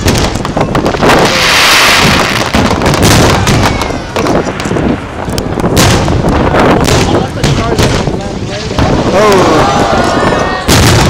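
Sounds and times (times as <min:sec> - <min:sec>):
fireworks booming: 0:00.0 - 0:11.0
fireworks hissing crackle: 0:00.0 - 0:11.0.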